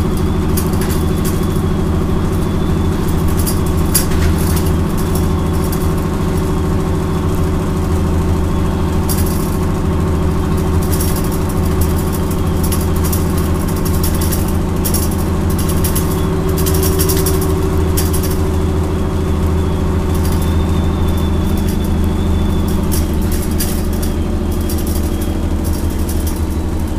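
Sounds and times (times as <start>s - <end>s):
bodywork rattles: 0.0s - 26.9s
bus diesel engine running: 0.0s - 26.9s.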